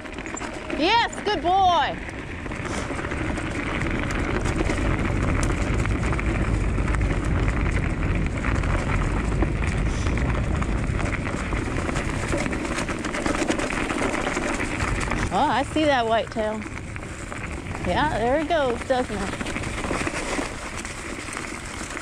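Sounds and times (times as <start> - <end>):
leaves crackling under wheels: 0.0 - 22.0
scooter tyres rolling on dirt: 0.0 - 22.0
wind on microphone: 0.8 - 22.0.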